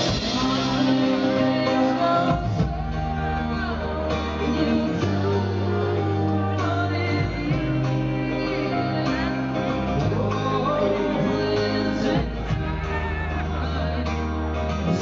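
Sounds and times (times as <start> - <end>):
guitar: 0.0 - 15.0
lead vocal singing: 0.0 - 15.0
pop-rock band playing live: 0.0 - 15.0
sustained bass notes: 0.0 - 15.0.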